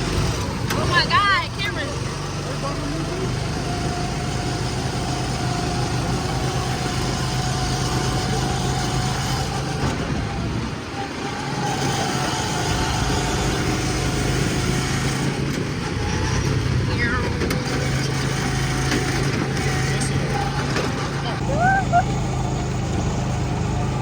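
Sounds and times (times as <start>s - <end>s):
go-kart engines humming: 0.0s - 24.0s.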